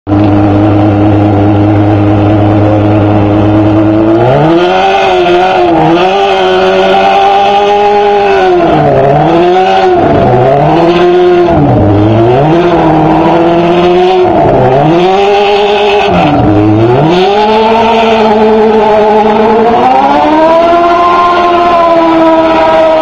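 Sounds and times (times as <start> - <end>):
vehicle engine revving: 0.1 - 23.0.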